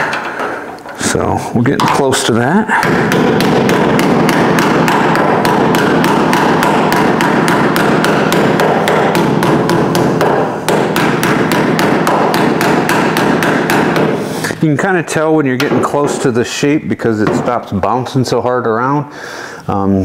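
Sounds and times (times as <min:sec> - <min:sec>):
hammer striking sheet steel: 0:01.8 - 0:18.2.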